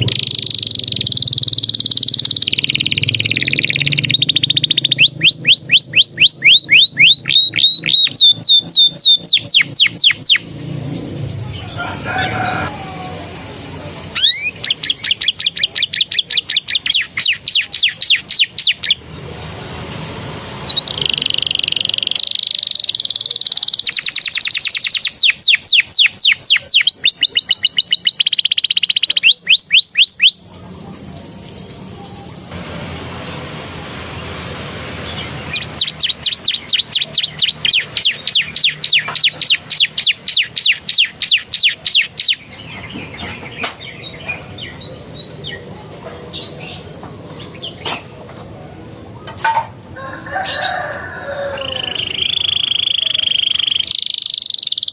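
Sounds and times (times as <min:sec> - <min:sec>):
canary singing: 0:00.0 - 0:19.6, 0:20.6 - 0:30.5, 0:33.2 - 0:48.1, 0:49.9 - 0:54.9.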